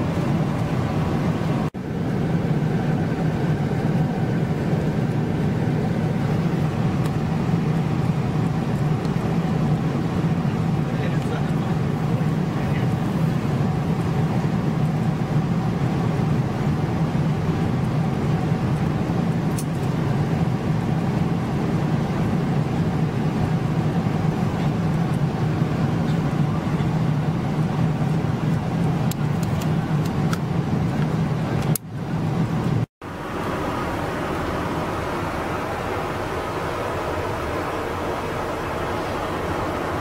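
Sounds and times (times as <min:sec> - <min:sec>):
airplane cabin drone: 0:00.0 - 0:40.0.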